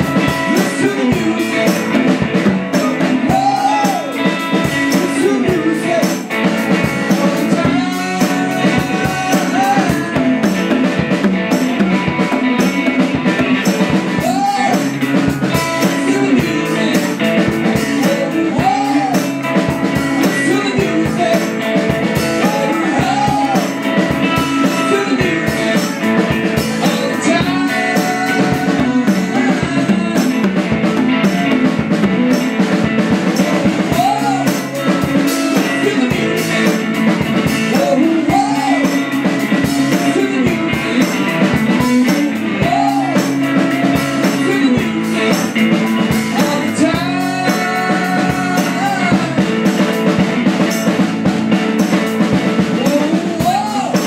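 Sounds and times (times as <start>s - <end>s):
conga drums: 0.0s - 54.0s
electric guitar: 0.0s - 54.0s.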